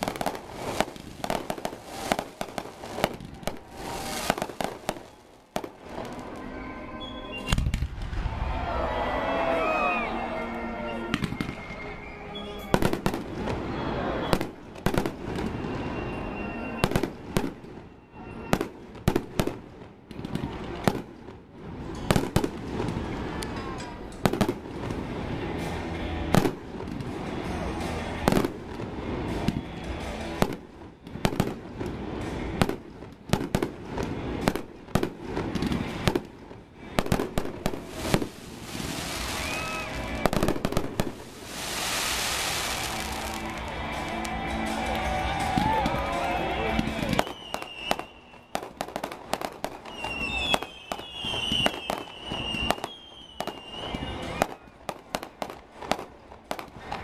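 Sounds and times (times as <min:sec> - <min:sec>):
fireworks bursting with sharp bangs: 0:00.0 - 0:06.6, 0:07.3 - 0:08.6, 0:11.1 - 0:11.8, 0:12.6 - 0:57.0.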